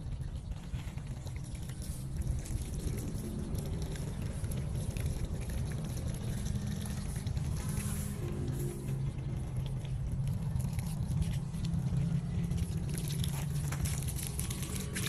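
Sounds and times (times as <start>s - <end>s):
hose water splashing into soil: 0.0s - 15.0s
steady low hum: 0.0s - 15.0s.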